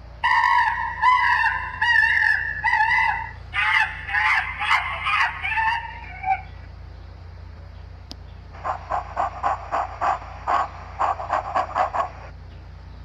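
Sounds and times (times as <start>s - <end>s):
animal calling: 0.2s - 6.8s, 8.4s - 12.3s.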